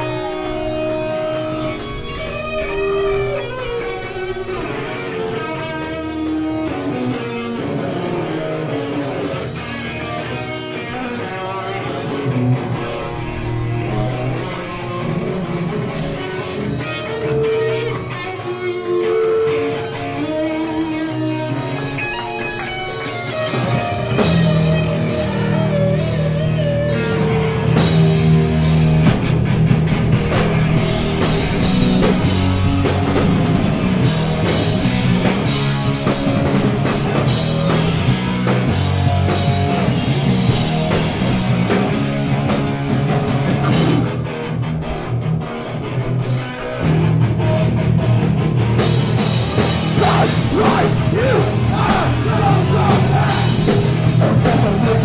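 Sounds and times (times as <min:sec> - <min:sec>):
electric guitar: 0:00.0 - 0:55.0
punk band playing live: 0:00.0 - 0:55.0.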